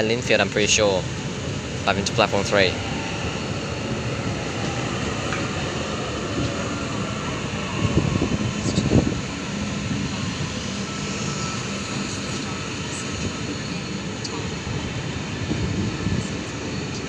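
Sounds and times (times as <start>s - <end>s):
electric trains humming: 0.0s - 17.0s
wind buffeting microphone: 0.0s - 17.0s.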